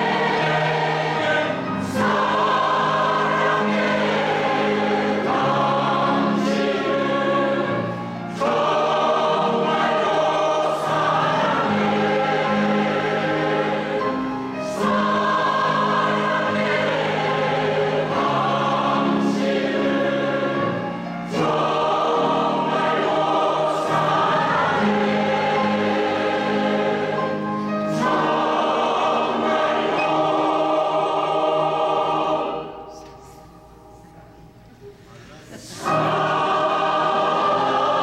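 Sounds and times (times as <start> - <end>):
women's choir singing: 0.0 - 34.0, 35.6 - 38.0
piano accompaniment: 0.0 - 38.0.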